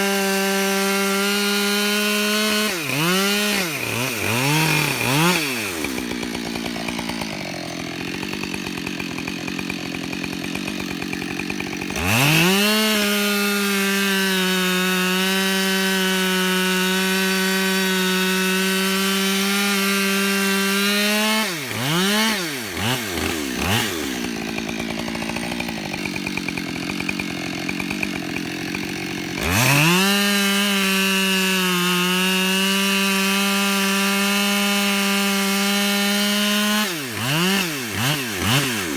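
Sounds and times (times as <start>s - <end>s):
chainsaw cutting wood: 0.0s - 38.9s
chainsaw throttle blips: 0.0s - 38.9s.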